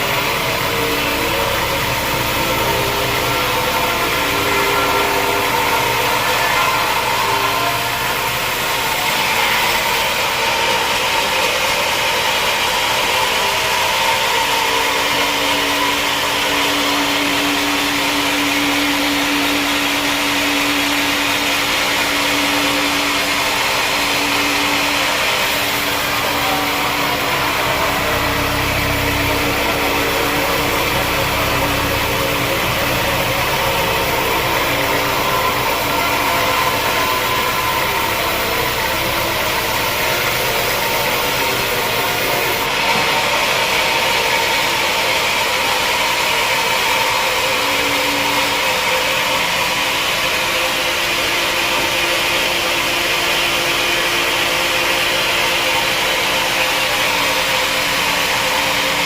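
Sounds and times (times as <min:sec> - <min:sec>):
deep machinery hum: 0:00.0 - 0:59.0.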